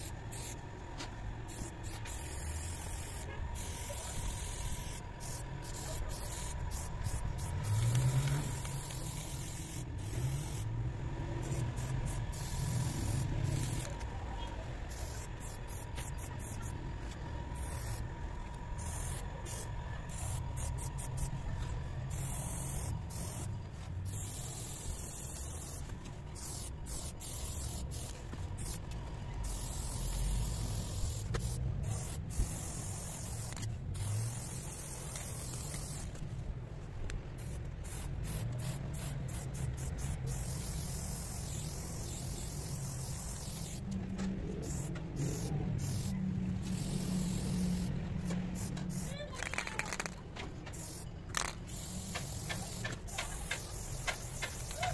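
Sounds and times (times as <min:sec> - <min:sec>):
spray can hissing: 0:00.0 - 0:14.2, 0:14.8 - 0:36.2, 0:37.2 - 0:54.9.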